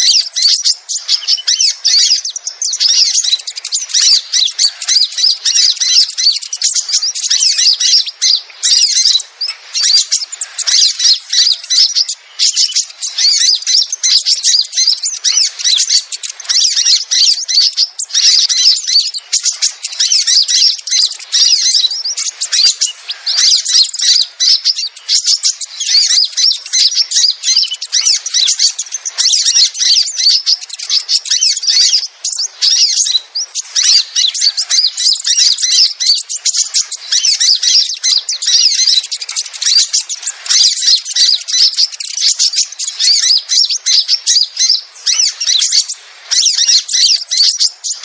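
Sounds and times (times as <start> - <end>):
birds chirping and trilling: 0.0 - 48.0.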